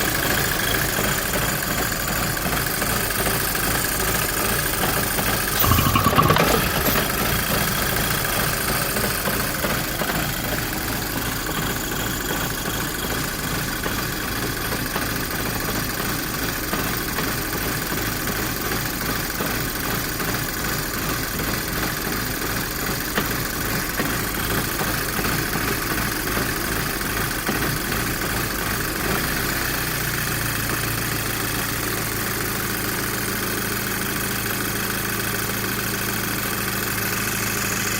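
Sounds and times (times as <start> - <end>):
car engine idling roughly: 0.0 - 5.2, 8.8 - 37.9.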